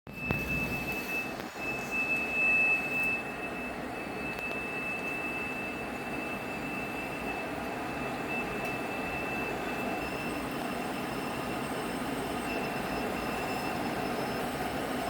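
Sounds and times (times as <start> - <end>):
hvac unit running: 0.1 - 15.0.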